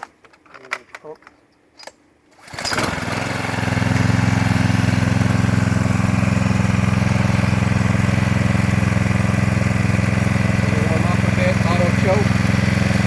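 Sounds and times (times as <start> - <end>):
small gas engine running: 2.4 - 13.0.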